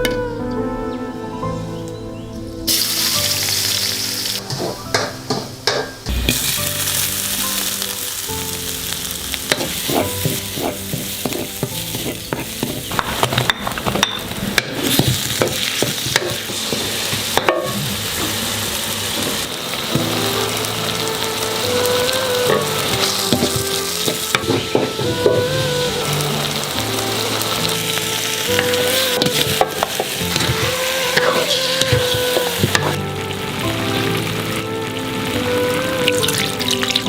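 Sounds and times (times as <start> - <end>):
hot oil sizzling in a pan: 2.7 - 37.0.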